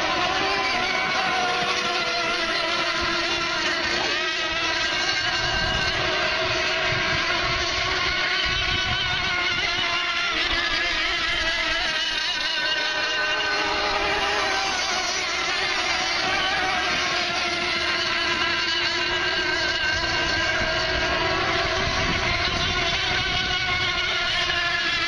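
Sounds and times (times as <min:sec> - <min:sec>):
model boat engines racing: 0:00.0 - 0:25.0.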